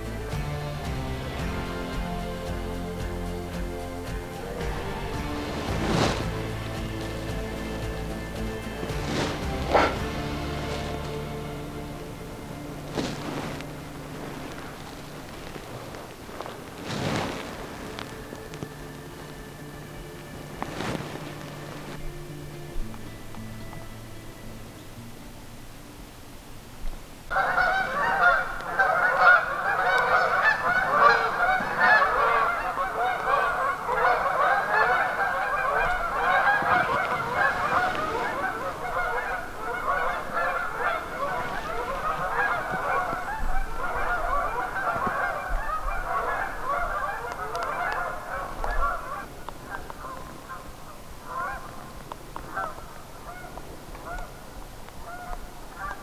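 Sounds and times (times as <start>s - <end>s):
flock of geese calling: 0.0s - 26.3s, 27.3s - 56.0s.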